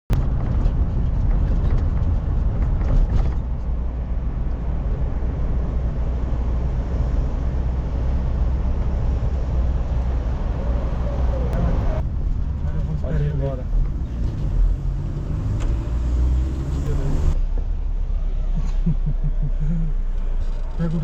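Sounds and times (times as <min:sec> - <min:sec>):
car interior engine and road noise: 0:00.1 - 0:21.0.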